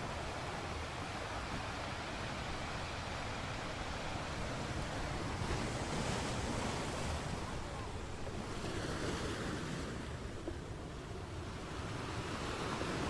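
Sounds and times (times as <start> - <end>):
sea surf washing: 0.0 - 13.0.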